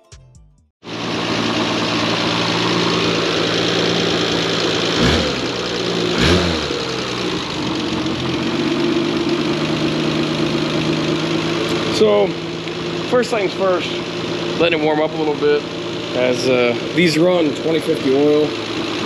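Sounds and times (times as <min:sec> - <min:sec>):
car engine idling: 0:00.8 - 0:19.0
engine throttle blips: 0:00.8 - 0:19.0.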